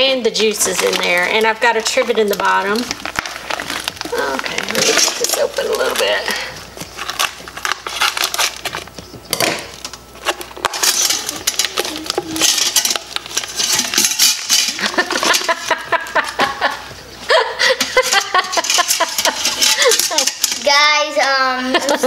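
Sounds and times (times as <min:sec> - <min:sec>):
plastic crinkling: 0:00.0 - 0:17.0, 0:17.8 - 0:20.8
scissors cutting plastic packaging: 0:00.4 - 0:16.4, 0:18.0 - 0:20.7.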